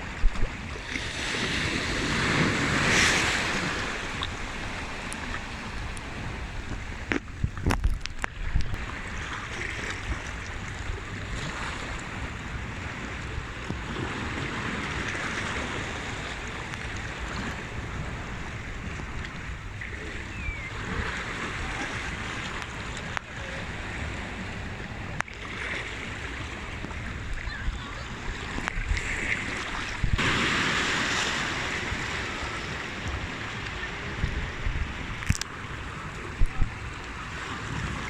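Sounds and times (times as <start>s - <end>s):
sea waves washing: 0.0s - 38.0s
wind buffeting microphone: 0.0s - 38.0s.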